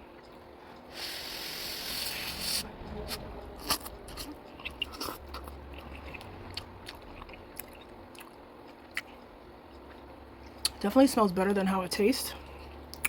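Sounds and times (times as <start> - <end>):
person chewing noodles: 0.0 - 10.8.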